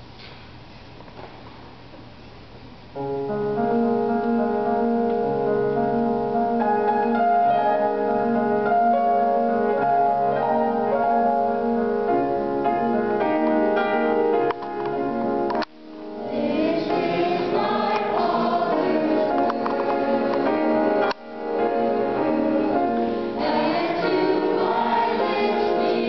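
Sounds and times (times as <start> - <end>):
keyboard playing sustained chords: 3.0 - 26.0.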